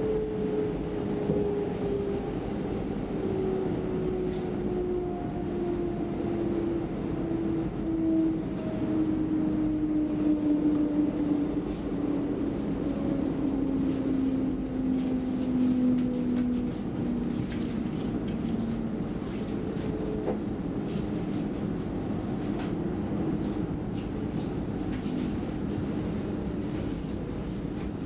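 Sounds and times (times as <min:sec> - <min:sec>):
electric train rumble: 0:00.0 - 0:28.0.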